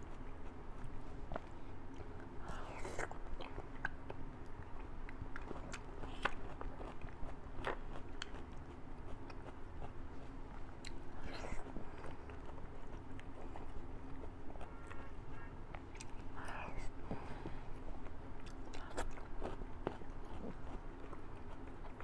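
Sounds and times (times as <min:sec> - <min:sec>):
biting and chewing: 0:00.0 - 0:16.6, 0:17.2 - 0:22.0
faint steady hum: 0:00.0 - 0:22.0.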